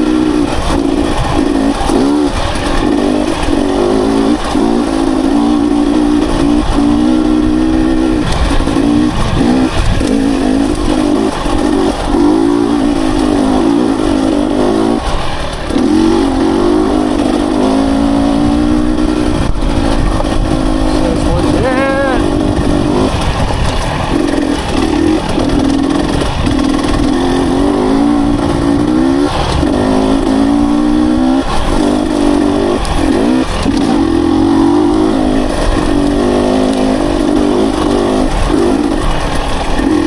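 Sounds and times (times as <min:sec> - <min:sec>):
dirt bike engine revving: 0:00.0 - 0:40.0
heavy wind noise: 0:00.0 - 0:40.0
riding noise: 0:00.0 - 0:40.0.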